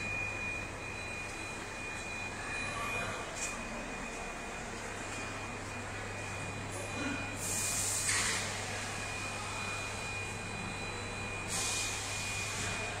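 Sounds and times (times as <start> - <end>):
machine motor hum with whine: 0.0 - 13.0.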